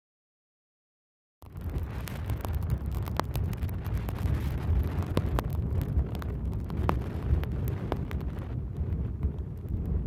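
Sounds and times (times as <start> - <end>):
wind buffeting microphone: 1.4 - 10.0
faint clicks: 1.7 - 10.0.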